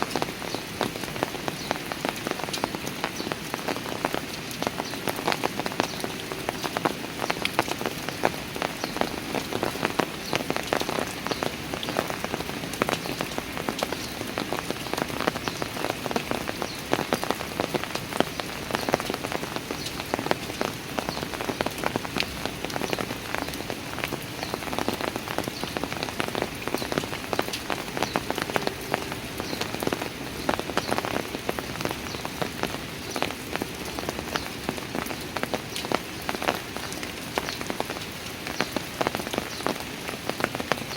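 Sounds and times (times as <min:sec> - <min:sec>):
rain pattering on stone steps: 0:00.0 - 0:40.9.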